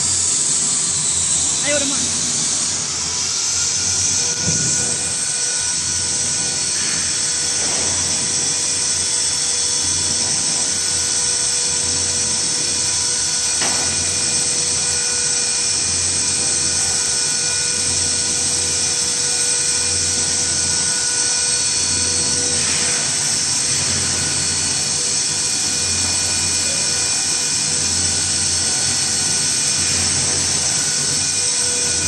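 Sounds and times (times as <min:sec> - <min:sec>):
mechanical whine and hiss: 0:00.0 - 0:32.0.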